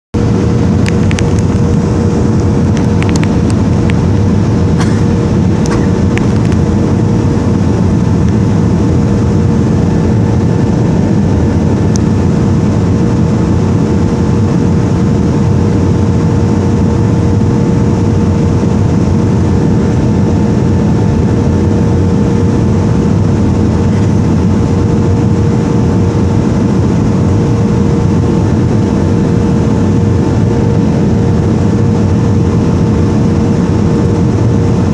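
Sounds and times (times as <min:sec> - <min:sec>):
airplane engine roar in flight: 0:00.1 - 0:34.9.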